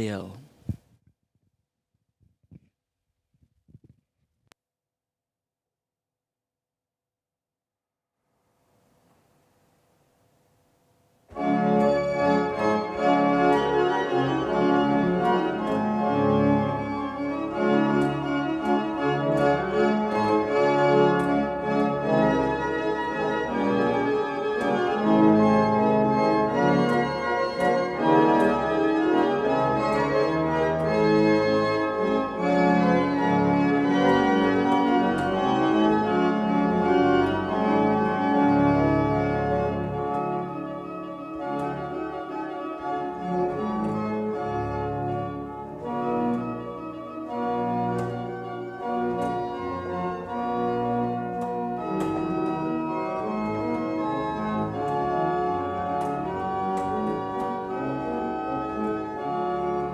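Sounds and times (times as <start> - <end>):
church pipe organ playing: 11.3 - 59.9.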